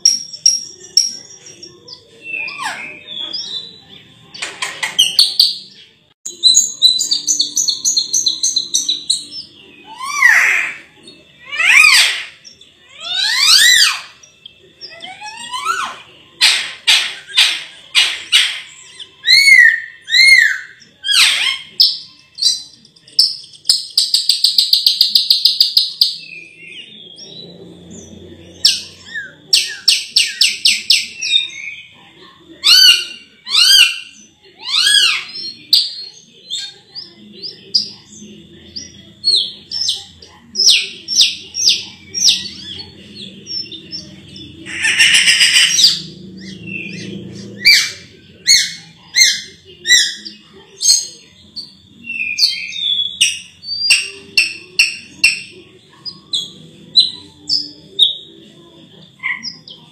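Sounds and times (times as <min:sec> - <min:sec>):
myna singing chirps and whistles: 0:00.0 - 0:28.0, 0:32.6 - 0:58.3.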